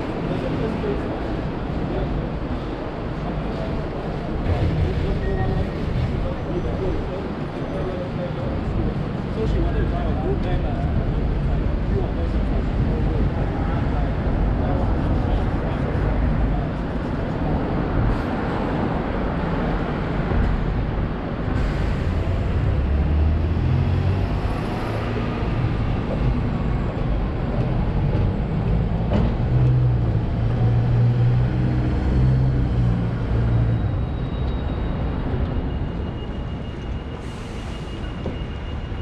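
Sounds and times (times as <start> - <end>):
vehicle engines droning: 0.0 - 39.0.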